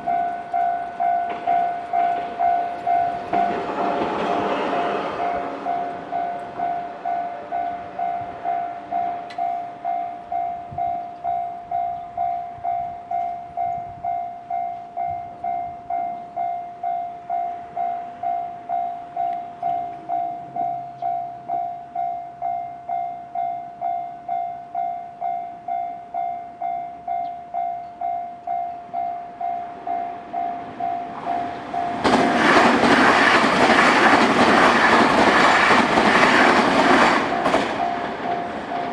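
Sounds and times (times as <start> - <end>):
level crossing warning bell: 0.0 - 38.9
train passing: 0.0 - 38.9.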